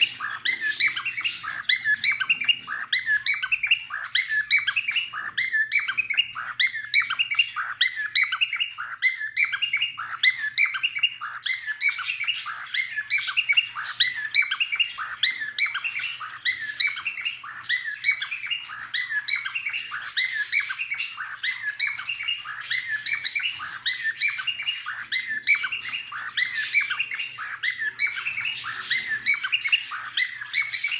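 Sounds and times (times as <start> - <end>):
cockatiel chirping and whistling: 0.0 - 30.9.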